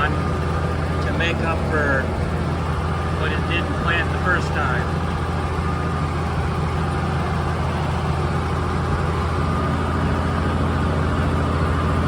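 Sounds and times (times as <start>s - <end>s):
faint steady whine: 0.0s - 11.7s
tractor engine drone: 0.0s - 12.0s.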